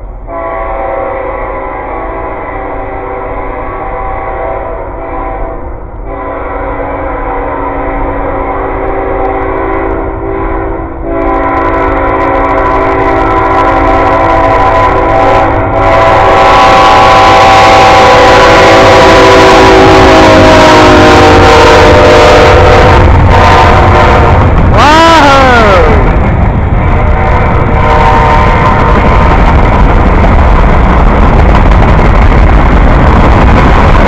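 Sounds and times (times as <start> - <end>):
locomotive engine and wheels: 0.0 - 34.0
locomotive air horn: 0.3 - 26.2, 26.8 - 29.5.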